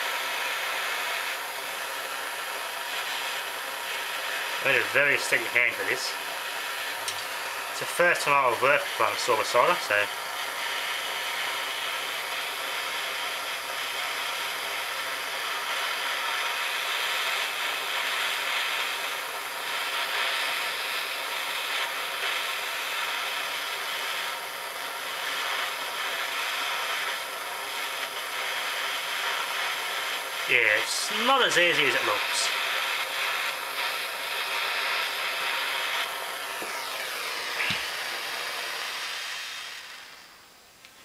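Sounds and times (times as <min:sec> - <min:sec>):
blowtorch hissing: 0:00.0 - 0:41.0.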